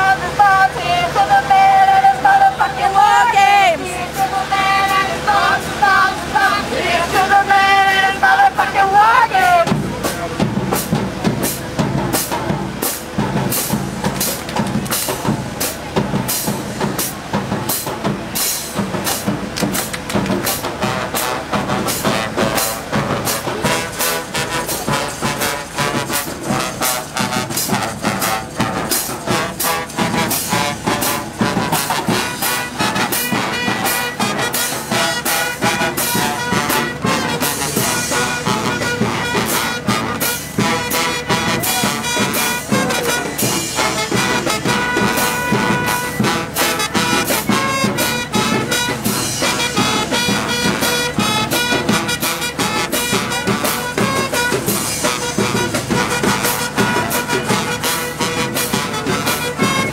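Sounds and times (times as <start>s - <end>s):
brass band horns: 0.0s - 59.9s
fast drum beat: 2.4s - 59.9s.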